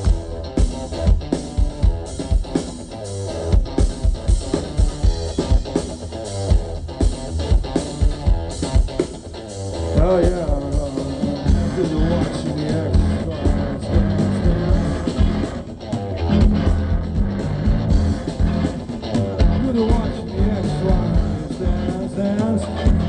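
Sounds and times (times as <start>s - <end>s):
bass guitar: 0.0s - 23.0s
drum kit beat: 0.0s - 23.0s
electric guitars: 0.0s - 23.0s.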